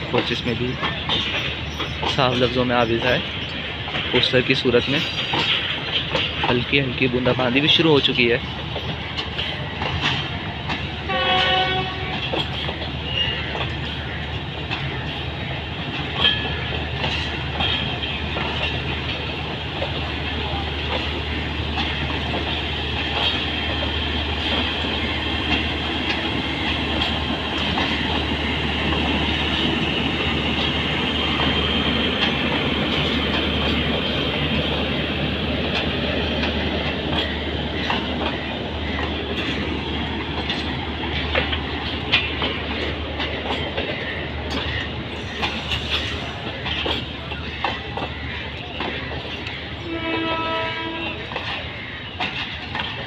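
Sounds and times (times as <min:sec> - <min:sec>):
train wheels rumbling on rails: 0:00.0 - 0:53.0
wheels clicking over rail joints: 0:00.0 - 0:53.0.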